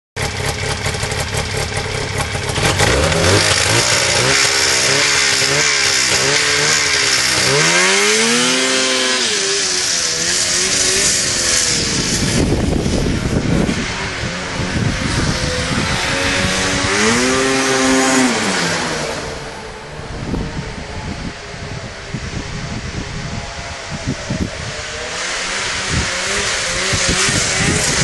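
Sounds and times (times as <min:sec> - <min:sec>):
snowmobile engine revving: 0:00.2 - 0:28.0.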